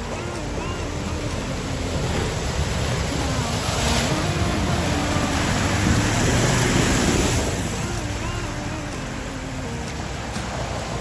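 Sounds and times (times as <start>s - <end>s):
faint background music: 0.0s - 11.0s
steady rushing noise: 0.0s - 11.0s.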